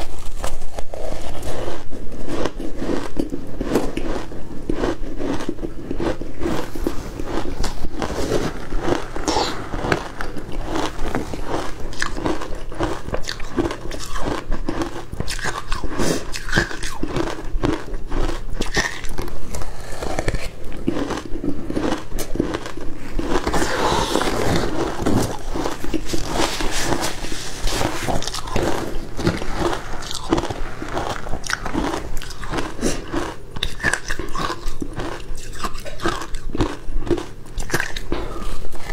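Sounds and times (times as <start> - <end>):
ice crunching while chewed: 0.0 - 38.9.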